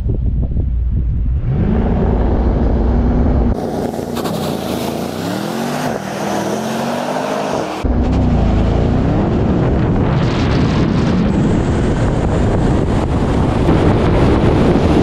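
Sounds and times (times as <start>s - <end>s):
wind noise on microphone: 0.0s - 15.0s
car engine accelerating hard: 1.2s - 15.0s.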